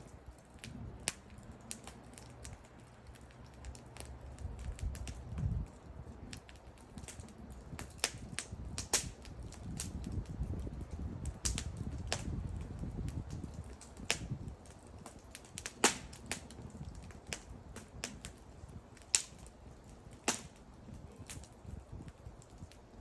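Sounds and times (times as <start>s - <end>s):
wood bonfire crackling: 0.0s - 23.0s.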